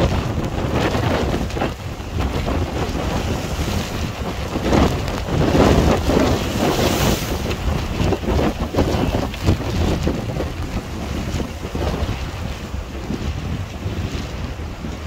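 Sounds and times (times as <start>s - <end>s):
sea splashing against rocks: 0.0s - 14.1s
storm wind buffeting microphone: 0.0s - 15.0s.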